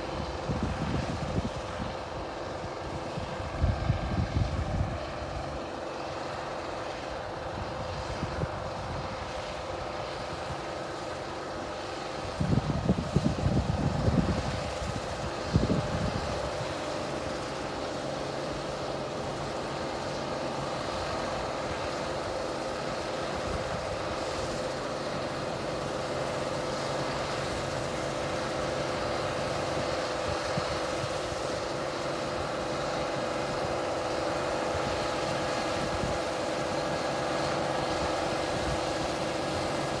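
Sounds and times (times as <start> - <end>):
combine harvester running: 0.0 - 40.0
constant machine whine: 0.0 - 40.0.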